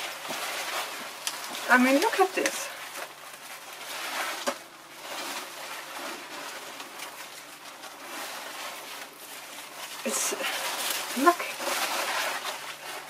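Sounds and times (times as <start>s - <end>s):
leaves and stems rustling: 0.0s - 13.0s.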